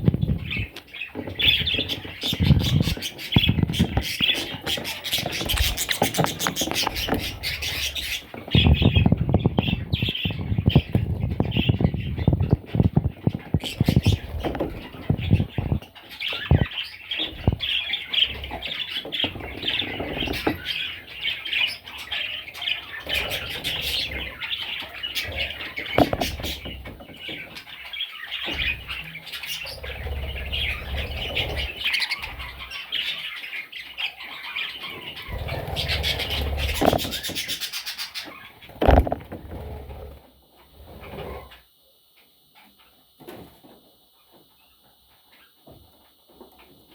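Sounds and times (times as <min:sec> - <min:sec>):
budgerigars chirping and squawking: 0:00.0 - 0:40.1.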